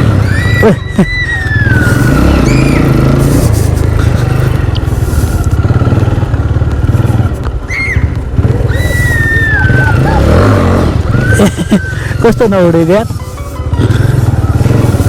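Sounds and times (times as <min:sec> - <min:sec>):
motorcycle engine running rough: 0:00.0 - 0:15.0.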